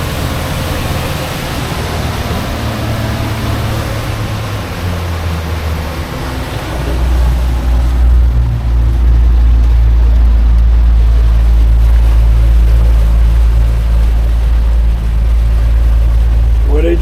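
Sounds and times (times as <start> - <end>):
outboard motor rumbling: 0.0 - 17.0.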